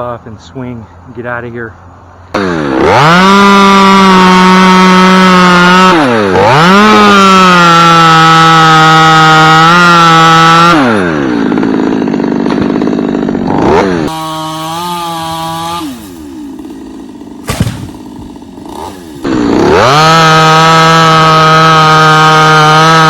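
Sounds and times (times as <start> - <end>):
chainsaw cutting a limb: 2.3 - 23.0.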